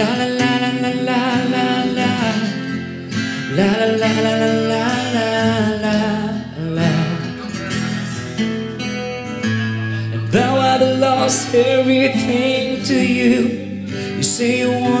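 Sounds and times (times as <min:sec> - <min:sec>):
man singing into a microphone: 0:00.0 - 0:08.0, 0:09.9 - 0:15.0
acoustic guitar: 0:00.0 - 0:15.0.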